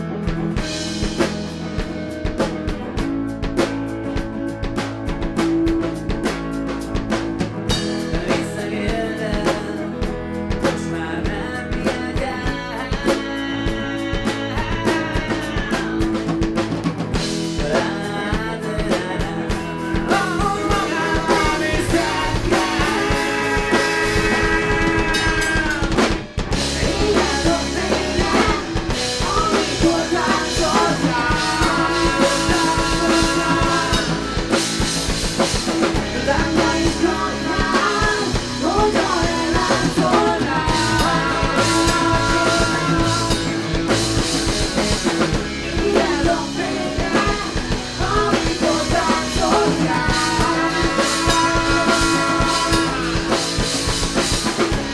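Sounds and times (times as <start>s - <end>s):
bass guitar: 0.0s - 54.9s
drum kit: 0.0s - 54.9s
guitars: 0.0s - 54.9s.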